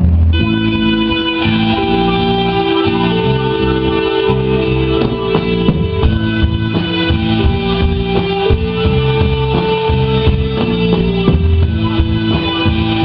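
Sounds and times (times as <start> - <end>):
bass guitar: 0.0 - 13.0
electric guitar sustained notes: 0.0 - 13.0
steady drum beat: 0.0 - 13.0.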